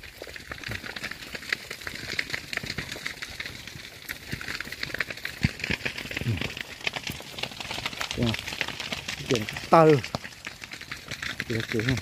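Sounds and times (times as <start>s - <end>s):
dry grass burning and crackling: 0.0s - 12.0s.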